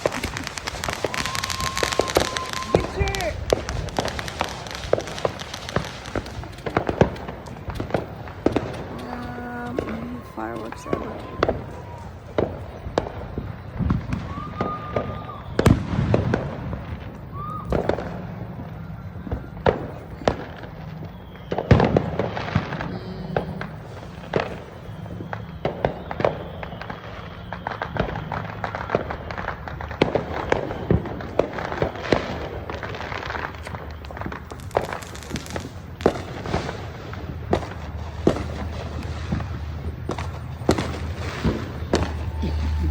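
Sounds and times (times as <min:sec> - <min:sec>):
fireworks and firecrackers banging: 0:00.0 - 0:42.9.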